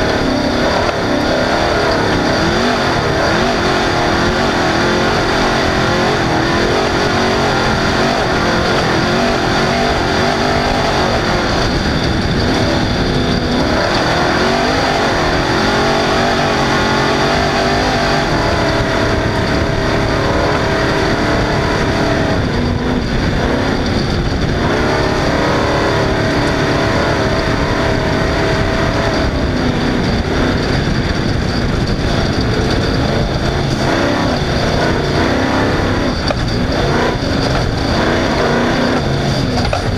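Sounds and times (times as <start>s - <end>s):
low rumble: 0.0s - 39.9s
race car engine running hard: 0.0s - 39.9s.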